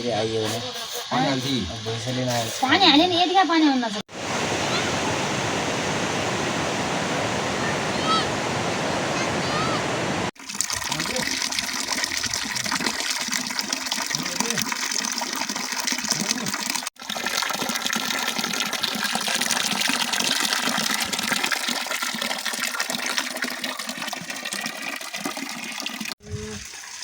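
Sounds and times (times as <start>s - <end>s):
water rushing: 4.0s - 27.0s.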